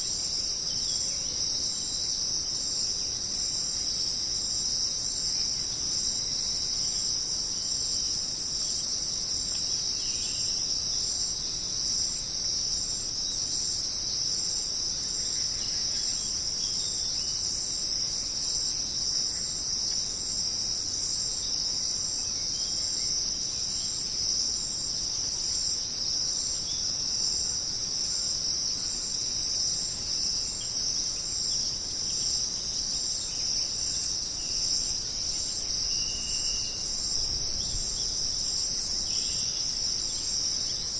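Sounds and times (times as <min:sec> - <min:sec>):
chorus of jungle insects: 0:00.0 - 0:40.9.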